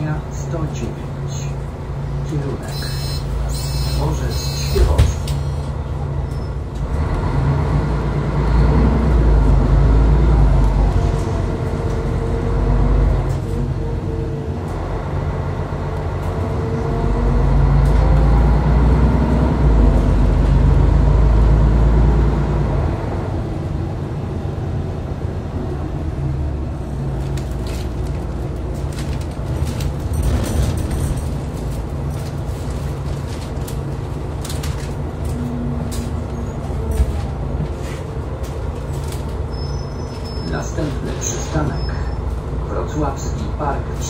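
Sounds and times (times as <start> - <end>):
bus engine rumbling: 0.0 - 44.0.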